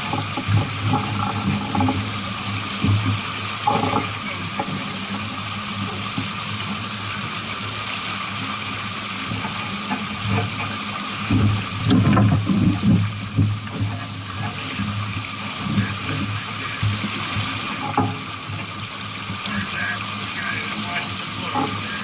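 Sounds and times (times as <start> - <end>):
water rushing along boat hull: 0.0 - 22.0.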